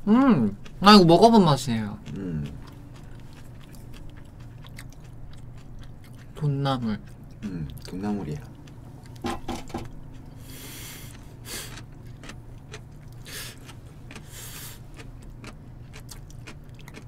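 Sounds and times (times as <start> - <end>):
chewing: 0.0 - 9.2, 9.8 - 17.0
low room hum: 0.0 - 17.0.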